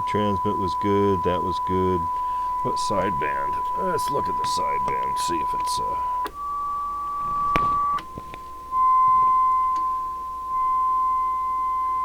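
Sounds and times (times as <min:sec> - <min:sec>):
steady test tone: 0:00.0 - 0:12.0.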